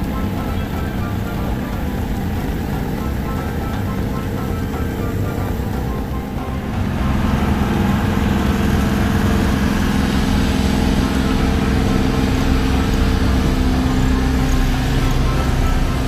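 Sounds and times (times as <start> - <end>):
boat engines droning: 0.0 - 16.0
rush of boat wake: 0.0 - 16.0
steady hum: 0.0 - 16.0.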